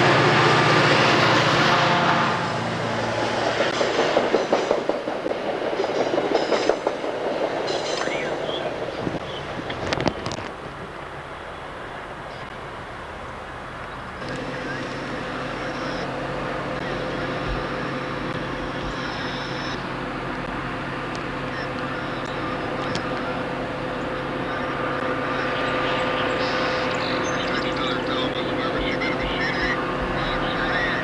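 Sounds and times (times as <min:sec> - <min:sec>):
diesel locomotive engine hum: 0:00.0 - 0:31.0.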